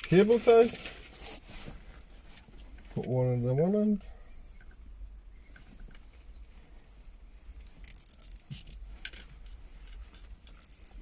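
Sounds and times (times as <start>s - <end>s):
handling clicks and rustles: 0.0s - 3.4s, 4.6s - 11.0s.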